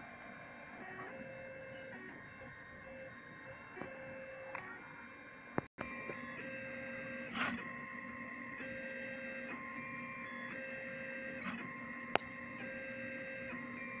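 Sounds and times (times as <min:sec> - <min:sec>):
stepper motors whining: 0:00.0 - 0:14.0.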